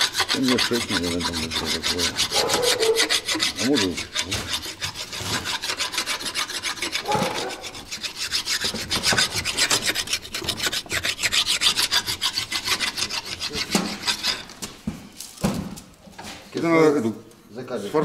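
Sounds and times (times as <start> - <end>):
hand tool rasping strokes: 0.0 - 14.8.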